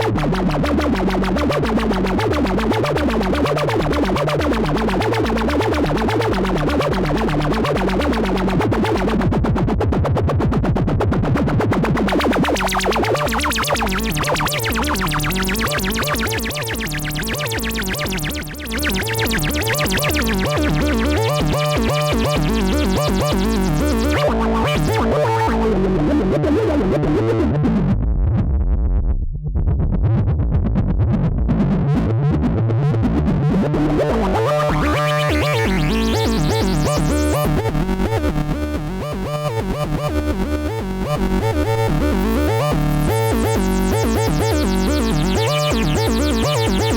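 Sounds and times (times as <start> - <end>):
bass synthesizer repeating notes: 0.0 - 46.9.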